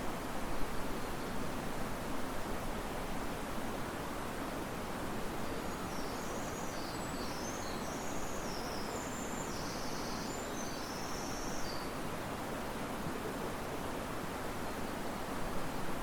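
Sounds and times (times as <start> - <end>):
wind through trees: 0.0 - 16.0.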